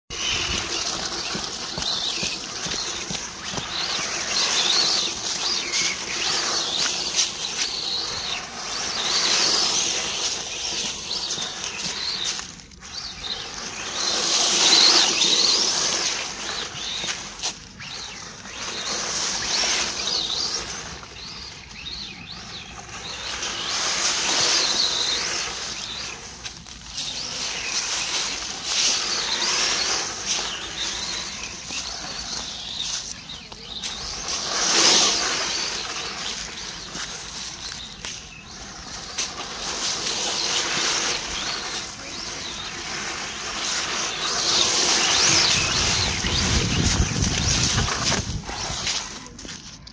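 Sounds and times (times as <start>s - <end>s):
hiss of tyres on ground: 0.1s - 49.8s.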